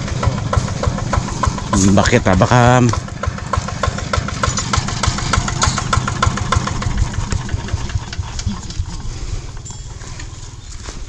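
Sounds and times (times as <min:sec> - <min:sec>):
tractor engine idling with knocking: 0:00.0 - 0:11.0.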